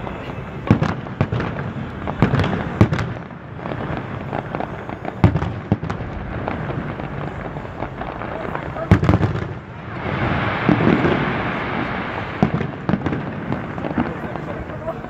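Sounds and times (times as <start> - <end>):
fireworks bangs: 0.0 - 15.0
small fireworks bursts and rumble: 0.0 - 15.0.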